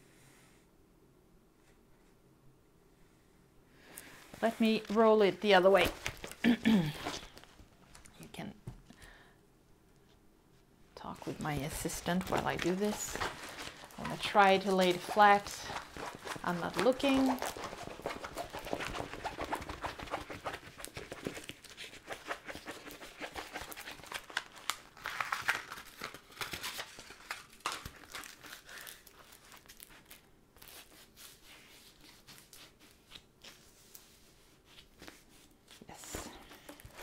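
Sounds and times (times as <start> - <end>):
plastic film crinkling: 4.4 - 8.3, 11.0 - 37.0.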